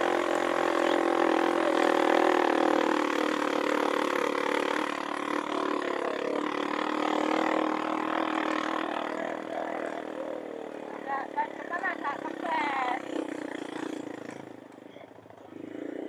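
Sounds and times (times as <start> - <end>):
vehicle engine running steadily: 0.0 - 16.0.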